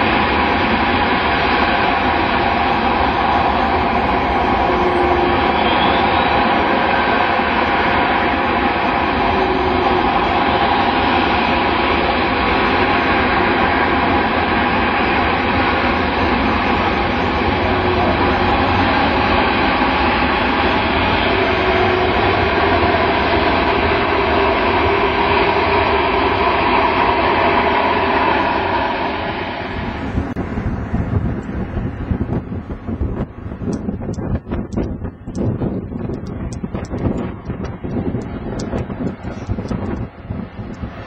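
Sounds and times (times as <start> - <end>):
jet engines in reverse thrust: 0.0 - 41.0.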